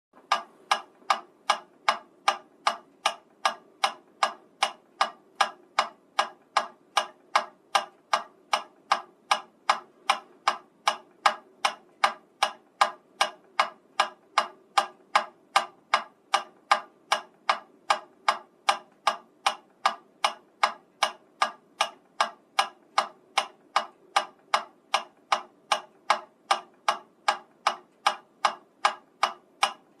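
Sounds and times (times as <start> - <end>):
metronome ticking: 0.2 - 30.0.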